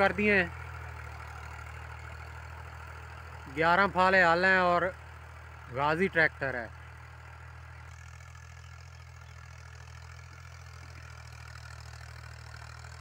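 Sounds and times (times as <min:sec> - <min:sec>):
distant tractor diesel engine: 0:00.0 - 0:13.0.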